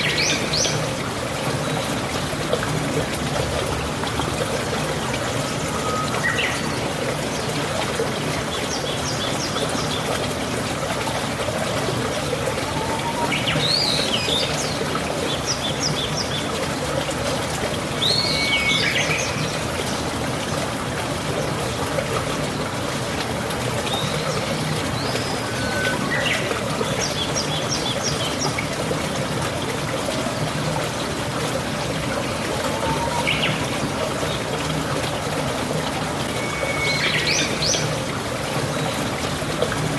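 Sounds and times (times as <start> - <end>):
steady rain: 0.0 - 39.9
water trickling and pouring: 0.0 - 39.9.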